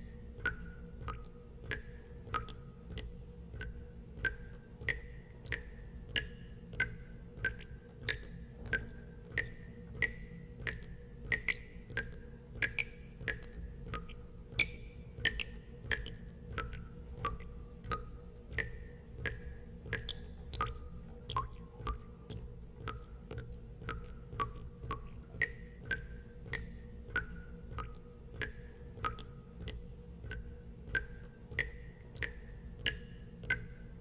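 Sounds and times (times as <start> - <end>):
steady low hum: 0.0 - 34.0
water drops plinking into water: 0.0 - 34.0.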